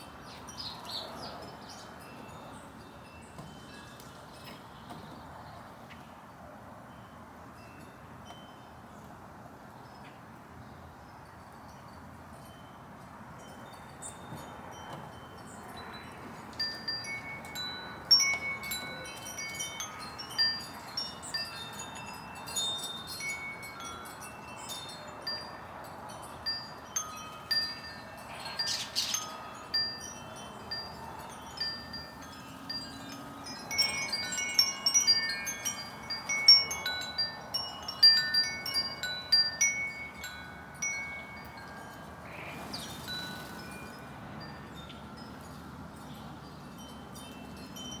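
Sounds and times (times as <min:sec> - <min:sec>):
wind chimes ringing: 0:00.0 - 0:05.3, 0:06.8 - 0:09.0, 0:11.3 - 0:48.0
outdoor background hiss: 0:00.0 - 0:48.0.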